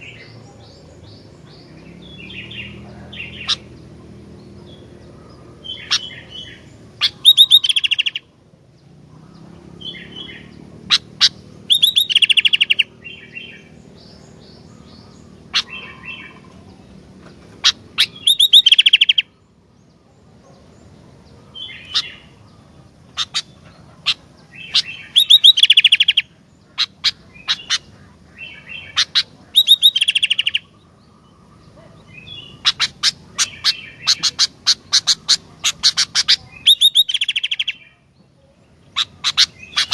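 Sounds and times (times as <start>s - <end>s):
sharp bird chirps: 0.0s - 8.3s, 9.1s - 38.0s, 38.8s - 39.9s
bird singing bubbling phrases: 0.0s - 39.9s.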